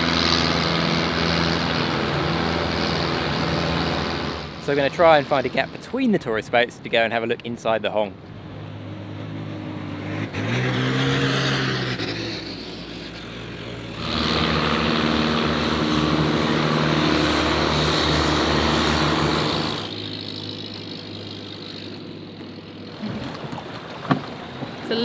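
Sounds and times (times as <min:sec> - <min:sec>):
rush of boat wake: 0:00.0 - 0:07.1, 0:07.8 - 0:25.0
boat engines passing: 0:00.0 - 0:25.0
loud boat engine: 0:00.0 - 0:25.0.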